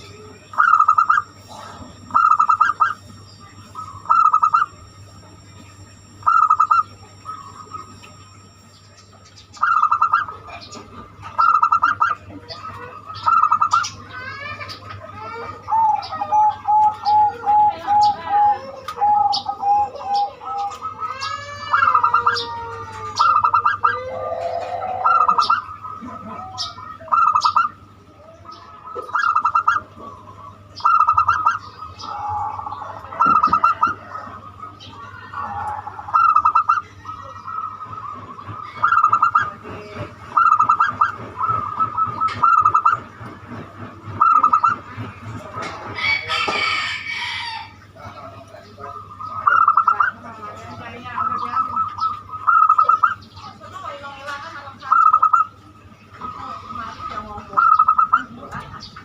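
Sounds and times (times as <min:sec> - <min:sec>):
dove cooing: 0:00.0 - 0:08.6, 0:09.6 - 0:47.7, 0:48.8 - 0:53.3, 0:56.2 - 0:58.6
birds chirping and twittering: 0:00.0 - 0:59.0.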